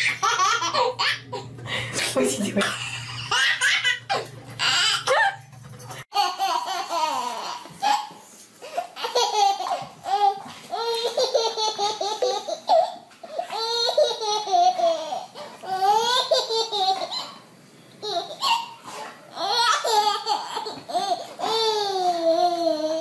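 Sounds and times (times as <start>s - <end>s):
baby laughing: 0.0s - 1.5s, 2.6s - 5.4s, 6.1s - 23.0s.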